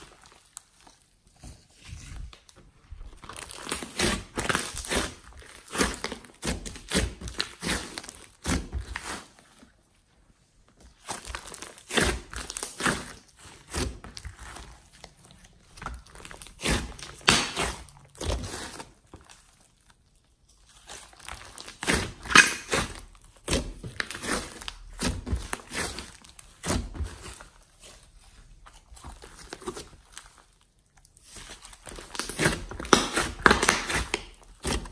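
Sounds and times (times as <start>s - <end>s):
slime squelching and popping: 3.1s - 9.6s, 10.7s - 34.9s.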